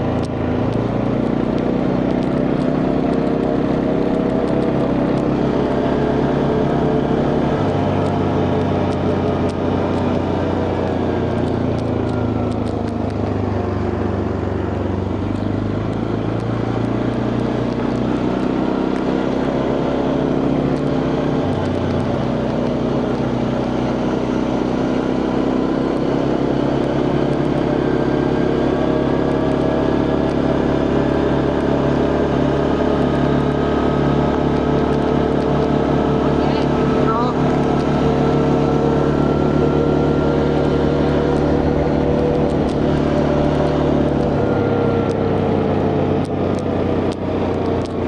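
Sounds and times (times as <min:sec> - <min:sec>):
quad bike engine running: 0:00.0 - 0:48.0.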